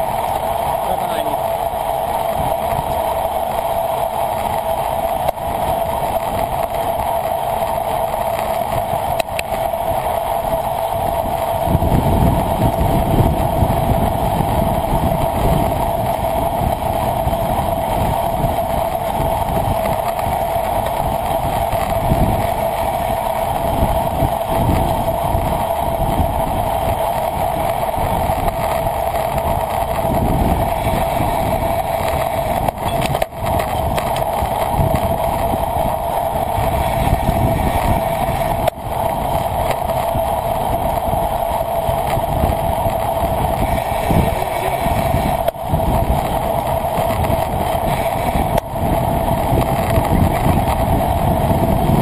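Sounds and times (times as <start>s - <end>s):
rushing wind and road noise: 0.0s - 52.0s
steady hum: 0.0s - 52.0s
wind buffeting microphone: 0.0s - 52.0s.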